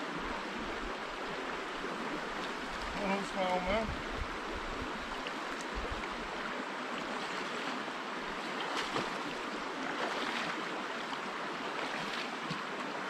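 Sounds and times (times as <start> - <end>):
brook babbling over rocks: 0.0 - 13.0.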